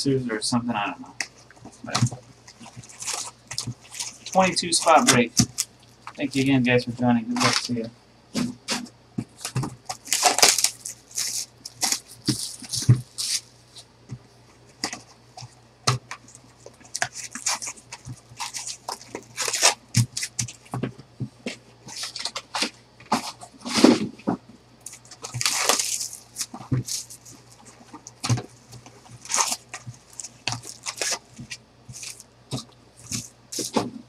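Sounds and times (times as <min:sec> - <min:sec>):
foil wrappers crinkling: 0:01.4 - 0:06.5, 0:08.7 - 0:13.9, 0:14.8 - 0:20.8, 0:21.9 - 0:24.0, 0:24.8 - 0:33.9.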